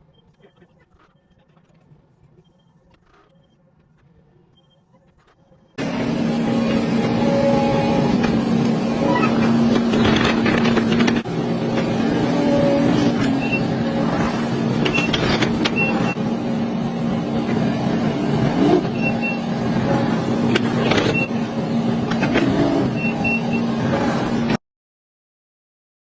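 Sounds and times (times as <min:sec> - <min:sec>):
machinery humming: 0:00.0 - 0:24.6.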